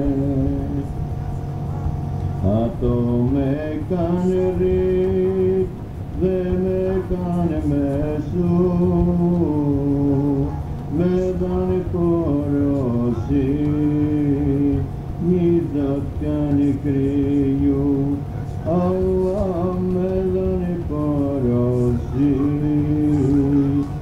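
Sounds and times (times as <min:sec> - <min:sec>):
man singing a hymn: 0:00.0 - 0:01.1, 0:02.4 - 0:24.0
low drone: 0:00.0 - 0:24.0.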